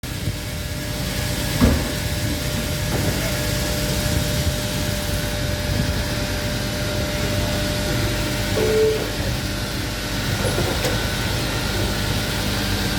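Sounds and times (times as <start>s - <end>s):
sawmill machine drone: 0.0s - 12.9s.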